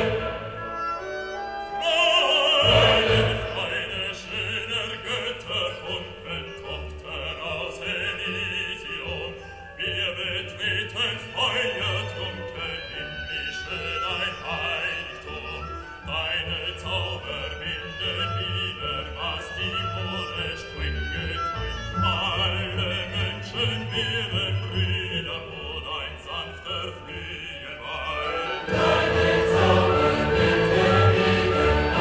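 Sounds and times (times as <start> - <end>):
opera music with singing from speaker: 0.0 - 32.0.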